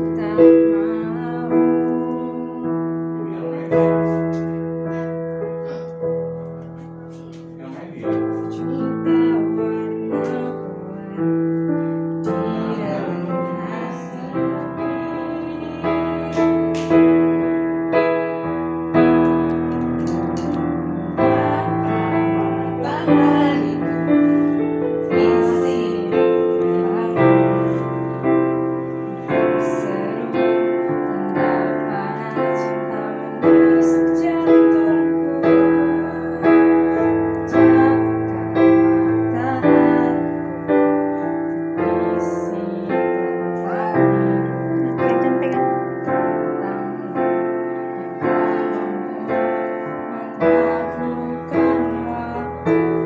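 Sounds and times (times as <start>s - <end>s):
digital piano melody: 0.0s - 53.0s.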